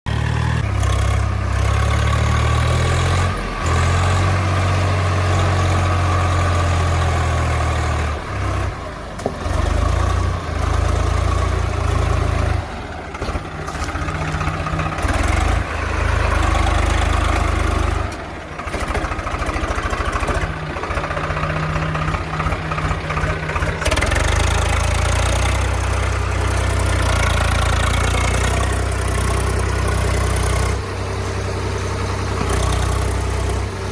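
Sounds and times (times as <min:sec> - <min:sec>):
diesel engines idling: 0:03.4 - 0:33.9.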